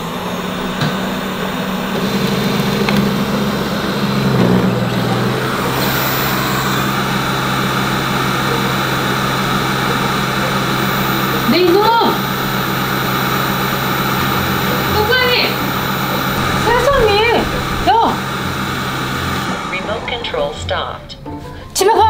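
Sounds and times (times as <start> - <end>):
robot vacuum whirring hum: 0.0 - 20.6.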